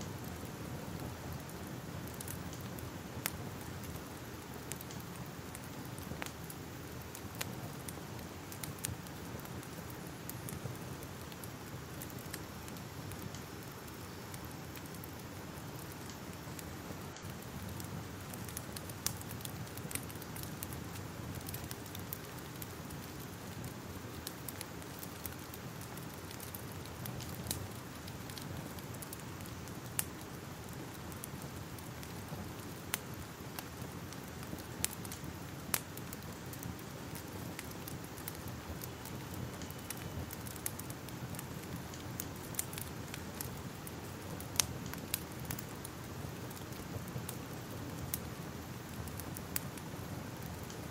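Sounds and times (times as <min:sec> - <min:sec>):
fire crackling: 0:00.0 - 0:50.9.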